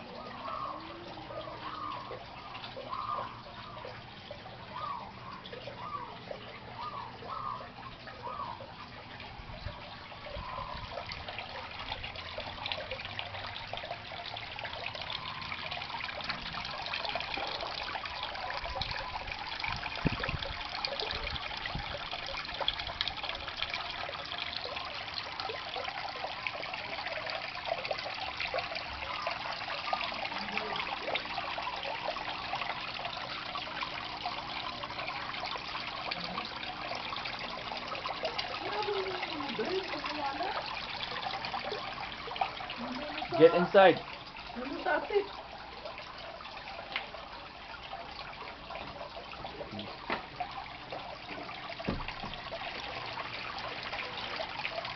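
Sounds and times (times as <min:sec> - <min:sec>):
water splashing and trickling: 0:00.0 - 0:54.9.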